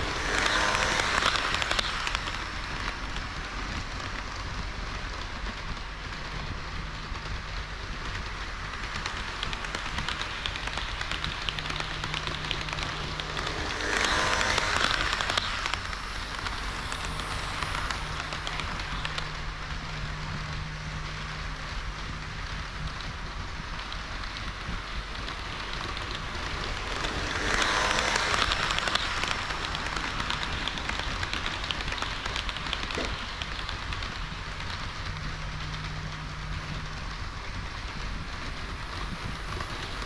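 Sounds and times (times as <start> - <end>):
faint motor hum: 0.0 - 40.0
model train wheels rolling: 0.0 - 40.0.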